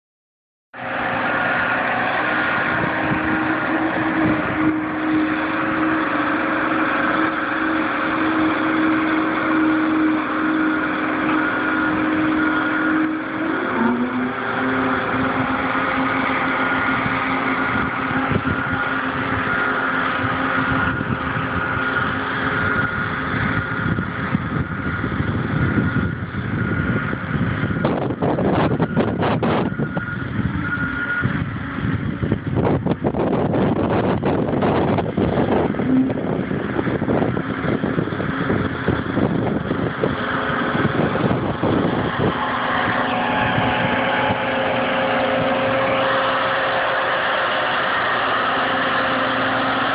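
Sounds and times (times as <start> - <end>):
road roller engine running: 0.8 - 49.9.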